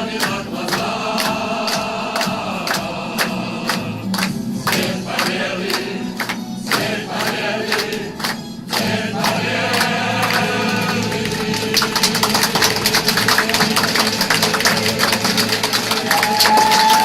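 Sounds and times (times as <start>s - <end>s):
choir singing: 0.0s - 17.0s
rhythmic clapping: 0.0s - 17.0s.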